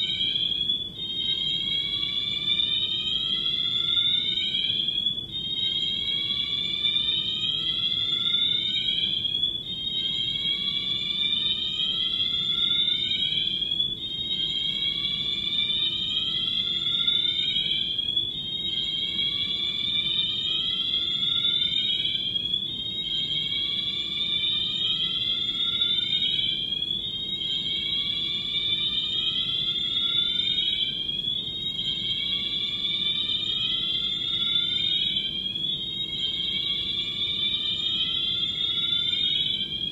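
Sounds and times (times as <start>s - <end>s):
fire alarm sirens whooping: 0.0s - 39.9s.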